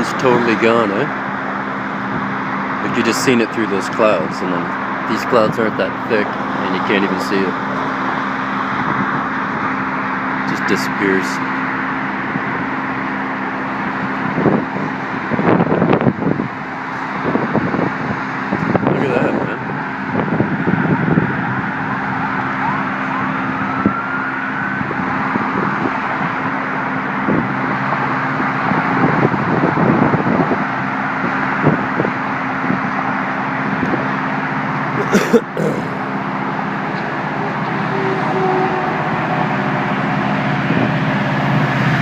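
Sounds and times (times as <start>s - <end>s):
cars going by: 0.0s - 42.0s.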